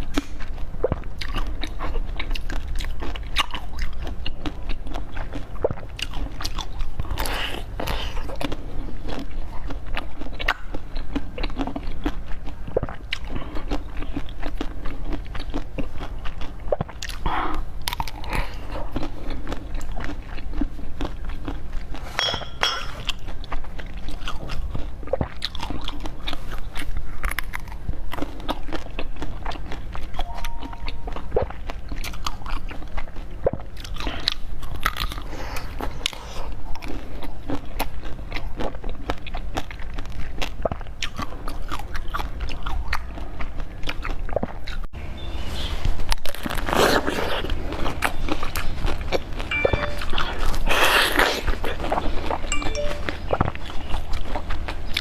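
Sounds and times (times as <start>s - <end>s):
crunchy chewing: 0.0s - 44.9s, 45.6s - 55.0s.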